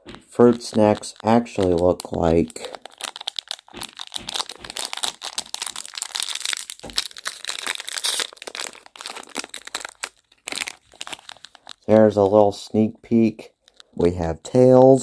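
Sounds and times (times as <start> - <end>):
plastic pouch crinkling and tearing: 0.3 - 12.4, 13.6 - 14.0.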